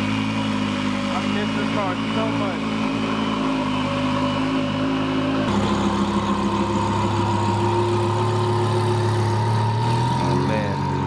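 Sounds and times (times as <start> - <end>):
loud car engine idling: 0.0 - 11.0.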